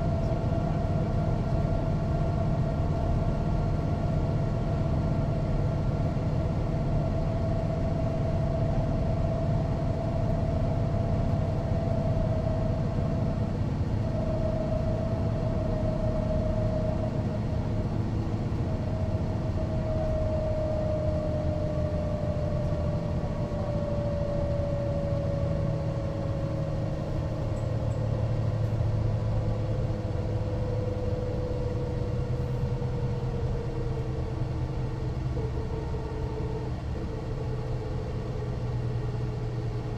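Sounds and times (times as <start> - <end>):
diesel bus engine rumbling: 0.0 - 39.9
steady whine falling in pitch: 0.0 - 39.9.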